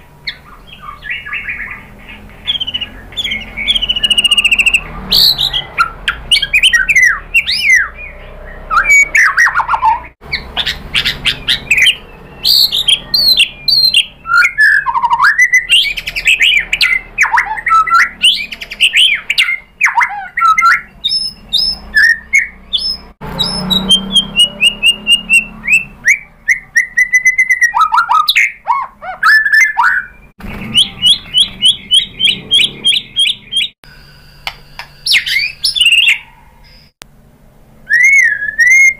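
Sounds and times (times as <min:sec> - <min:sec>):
bird singing whistled song: 0:00.2 - 0:33.8, 0:34.7 - 0:37.0, 0:37.8 - 0:38.9.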